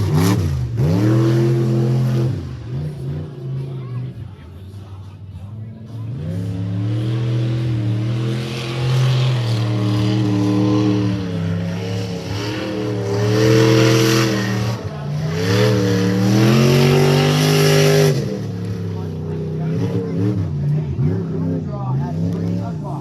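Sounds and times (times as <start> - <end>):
truck engine running hard: 0.0 - 23.0.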